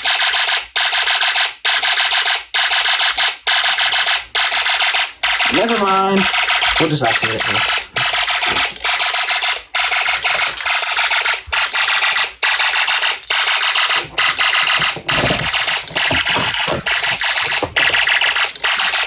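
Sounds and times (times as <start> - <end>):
electronic fire alarm tone: 0.0 - 19.0.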